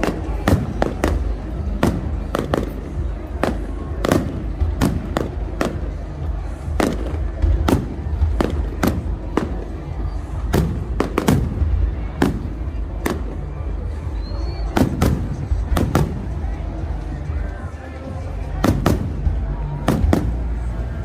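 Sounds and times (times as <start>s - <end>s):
fireworks bangs: 0.0s - 16.6s, 18.5s - 20.8s.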